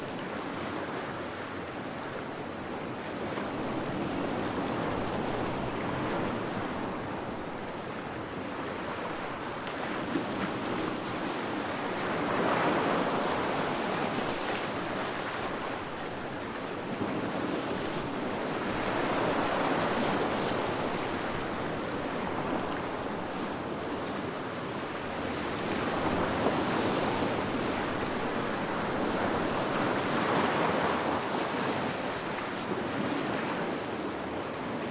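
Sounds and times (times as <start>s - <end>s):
ocean surf breaking on beach: 0.0s - 34.9s.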